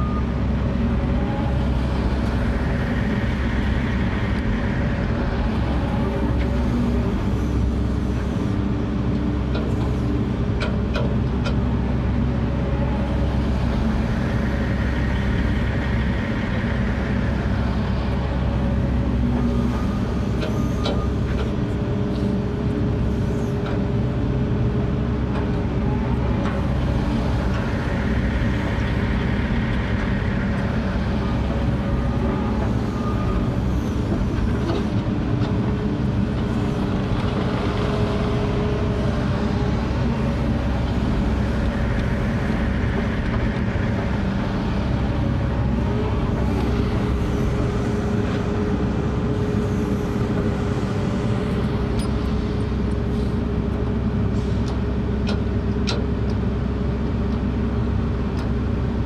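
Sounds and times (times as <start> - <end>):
diesel engine running: 0.0 - 59.0
hydraulics whining: 0.0 - 59.0.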